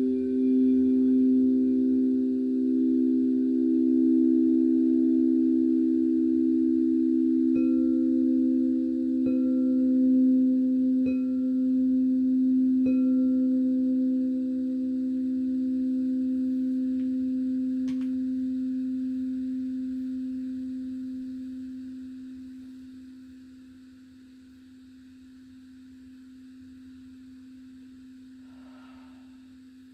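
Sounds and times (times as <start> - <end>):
singing bowls ringing low tones: 0.0 - 29.9.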